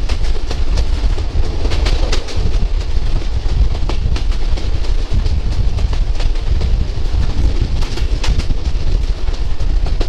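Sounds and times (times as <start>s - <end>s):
train deep rumble: 0.0s - 10.0s
wheel clicks and clatter: 0.0s - 10.0s.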